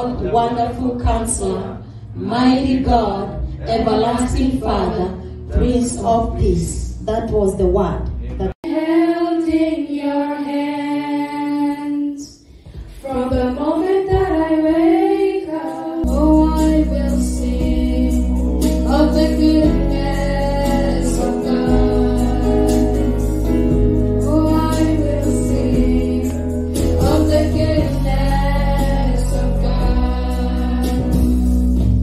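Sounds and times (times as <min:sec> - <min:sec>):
gospel-style singing: 0:00.0 - 0:06.0, 0:08.6 - 0:32.0.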